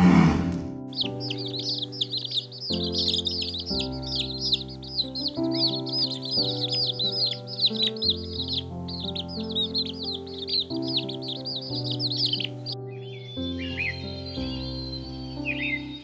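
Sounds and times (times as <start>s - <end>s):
background music with held chords: 0.4s - 16.0s
chicks peeping: 0.9s - 15.7s.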